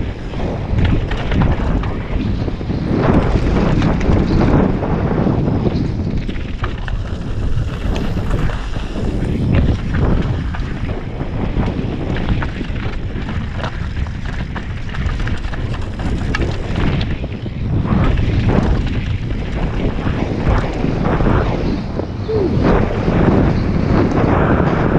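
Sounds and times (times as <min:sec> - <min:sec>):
bike rattling: 0:00.0 - 0:24.9
wind buffeting microphone: 0:00.0 - 0:24.9.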